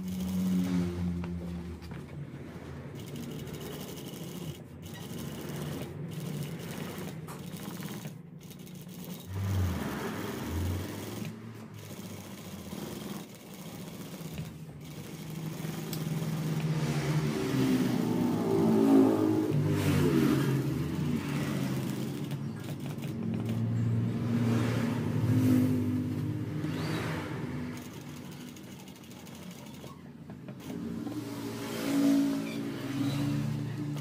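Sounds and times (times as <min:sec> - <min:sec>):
sewing machine stitching: 0:00.0 - 0:01.2, 0:02.7 - 0:34.0
engine-like revving: 0:00.0 - 0:34.0.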